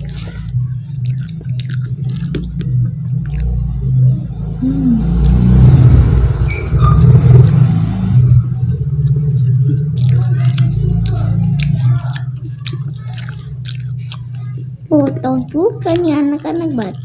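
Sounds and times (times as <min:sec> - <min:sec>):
loud low rumble: 0:00.0 - 0:14.9.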